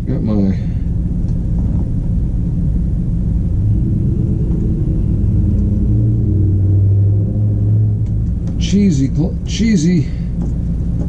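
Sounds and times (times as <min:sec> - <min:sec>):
low mechanical rumble with hum: 0:00.0 - 0:11.0.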